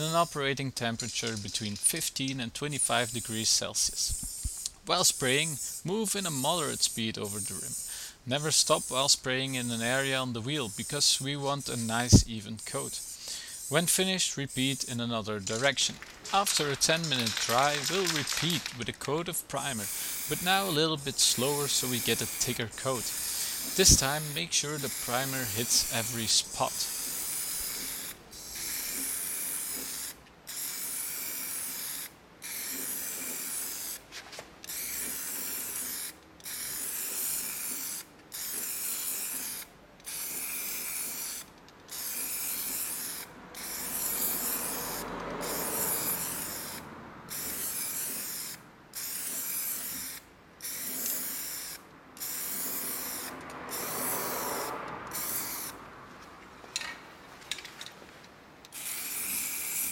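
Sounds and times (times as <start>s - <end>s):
aerosol can spraying: 3.0s - 18.9s, 19.5s - 34.0s, 34.7s - 55.8s, 58.7s - 59.9s.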